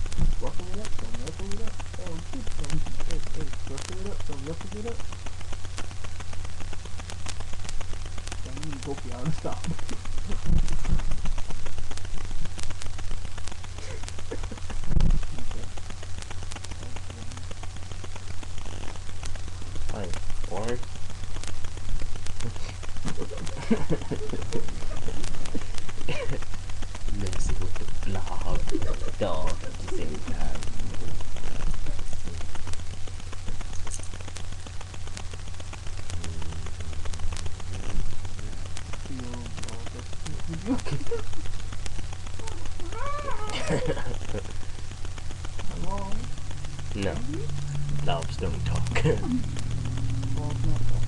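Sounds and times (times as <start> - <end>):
low hum: 0.0 - 51.0.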